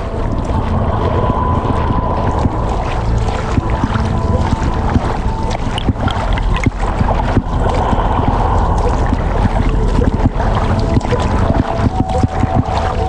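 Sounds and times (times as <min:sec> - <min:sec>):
underwater clicks and crackles: 0:00.0 - 0:13.0
underwater rumbling water: 0:00.0 - 0:13.0.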